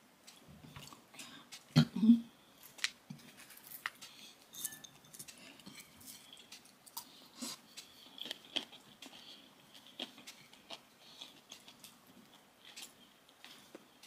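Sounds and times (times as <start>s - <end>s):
person chewing: 0.3s - 1.8s, 2.6s - 14.0s.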